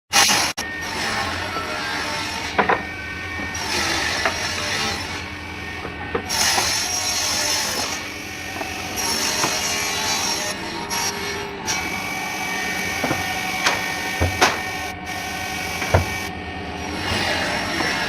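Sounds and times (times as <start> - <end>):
power tool cutting wood: 0.1 - 18.0
high-pitched whine: 0.2 - 18.0.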